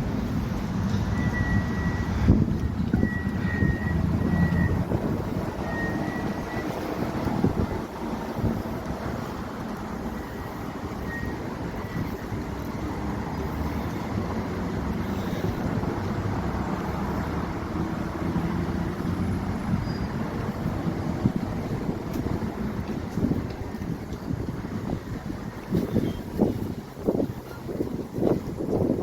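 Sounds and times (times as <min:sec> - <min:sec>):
road traffic rumble: 0:00.0 - 0:29.0
wind buffeting microphone: 0:00.0 - 0:29.0.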